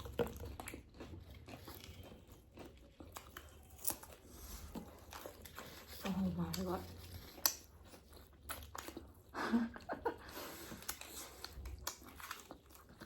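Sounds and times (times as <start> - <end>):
chewing and biting: 0.0 - 13.0.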